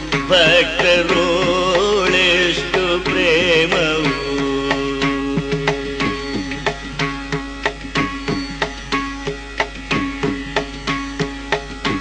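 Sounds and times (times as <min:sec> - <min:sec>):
hand drum strokes: 0:00.0 - 0:12.0
held melodic accompaniment: 0:00.0 - 0:12.0.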